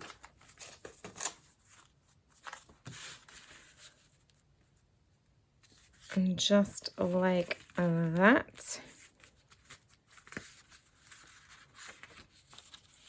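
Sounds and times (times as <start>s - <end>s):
paper rustling: 0.0s - 4.8s, 5.6s - 13.0s.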